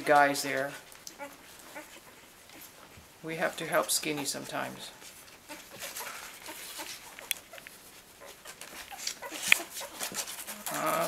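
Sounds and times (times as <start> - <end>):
puppies squeaking and whimpering: 1.1 - 3.0, 3.6 - 11.0.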